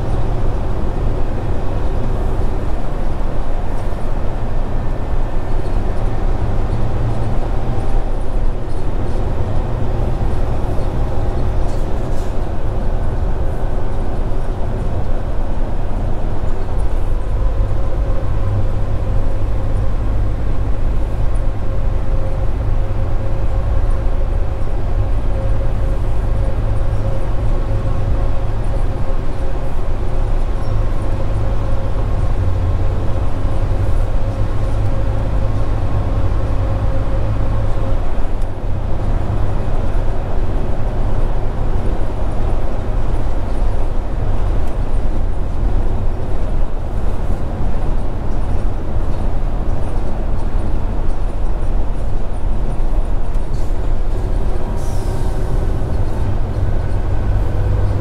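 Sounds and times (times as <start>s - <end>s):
diesel truck engine drone: 0.0s - 58.0s
road noise: 0.0s - 58.0s.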